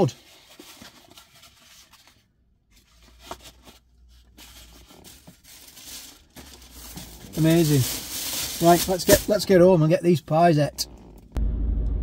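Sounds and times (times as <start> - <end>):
packaging rustling and scraping: 0.0 - 9.8.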